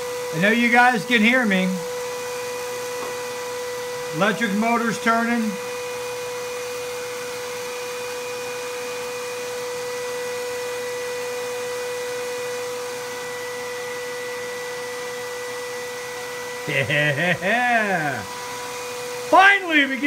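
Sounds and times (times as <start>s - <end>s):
fan motor humming: 0.0s - 20.0s.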